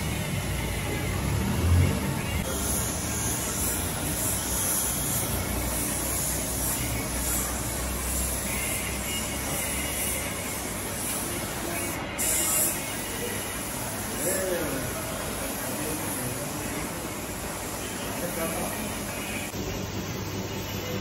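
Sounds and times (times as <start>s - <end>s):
spray gun hissing: 2.4s - 19.5s.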